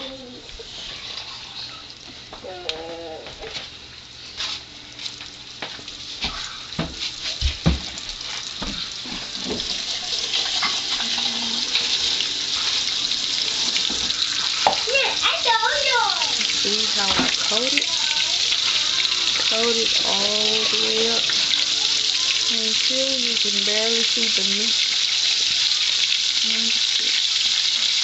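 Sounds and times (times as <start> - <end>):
fish sizzling in hot grease: 3.7 - 28.0.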